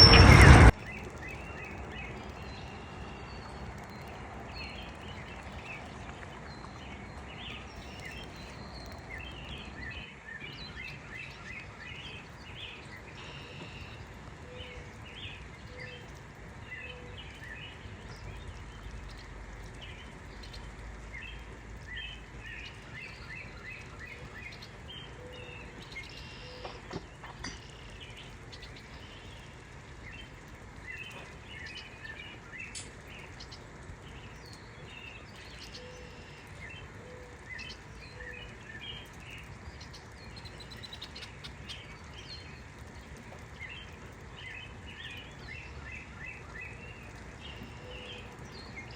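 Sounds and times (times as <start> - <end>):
small birds chirping: 0.7 - 48.9.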